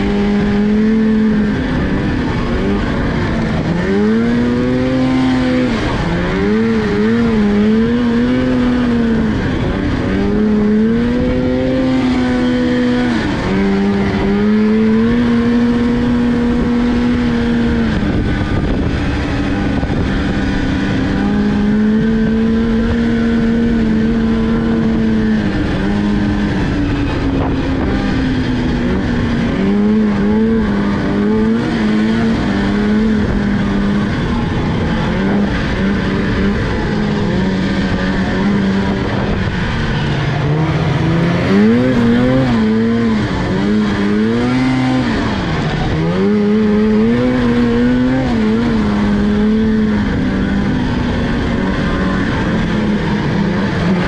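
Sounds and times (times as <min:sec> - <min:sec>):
snowmobile engine revving: 0:00.0 - 0:54.0
track and wind rush: 0:00.0 - 0:54.0.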